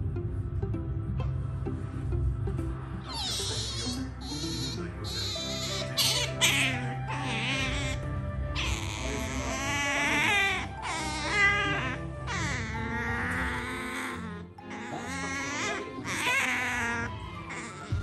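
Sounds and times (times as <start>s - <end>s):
background music: 0.0s - 18.0s
otter squealing and whining: 3.0s - 18.0s.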